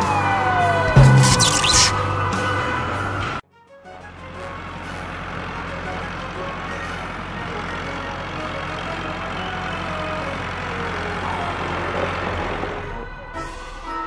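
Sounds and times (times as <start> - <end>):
cartoon truck engine running: 0.0 - 14.0.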